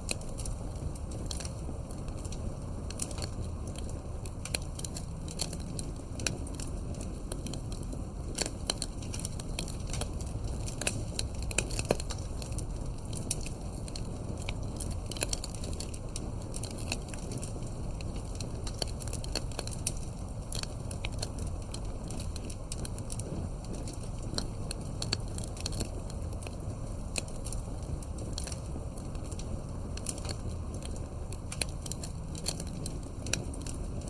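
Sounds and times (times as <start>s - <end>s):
burning wood popping: 0.0s - 34.0s
campfire crackling: 0.0s - 34.0s.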